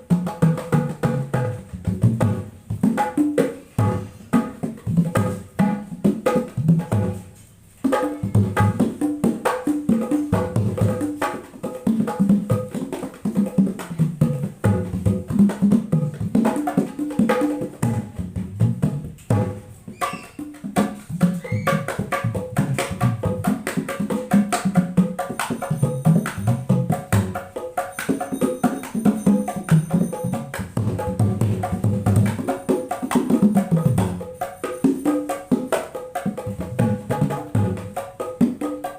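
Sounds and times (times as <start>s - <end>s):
hand drums playing fast rhythms: 0.0s - 38.9s.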